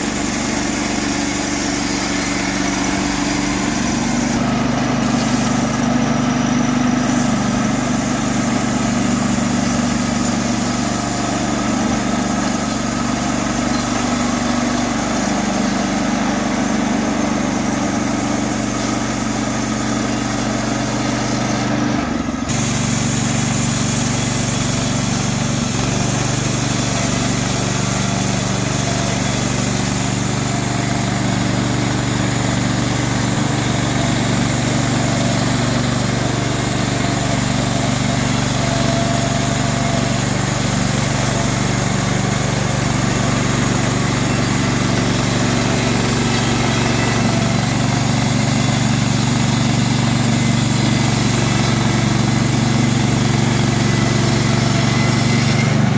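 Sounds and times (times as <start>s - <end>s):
band saw blade cutting log: 0.0s - 55.9s
gasoline engine running: 0.0s - 55.9s.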